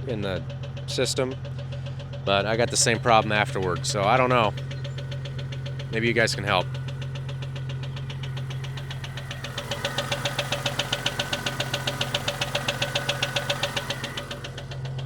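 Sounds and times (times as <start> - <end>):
car engine running: 0.0 - 15.0
rapid ticking engine knock: 0.0 - 15.0.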